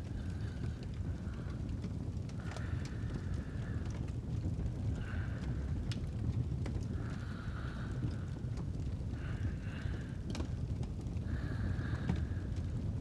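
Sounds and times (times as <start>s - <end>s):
slow sleep breathing: 0.0s - 4.1s, 4.8s - 13.0s
fire crackling and popping: 0.0s - 13.0s
fireplace fire rumbling: 0.0s - 13.0s.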